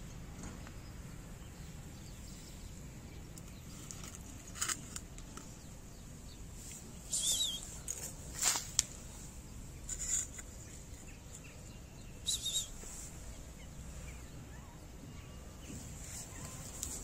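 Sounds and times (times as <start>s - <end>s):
outdoor background noise: 0.0s - 17.0s
small bird chirping: 0.0s - 17.0s.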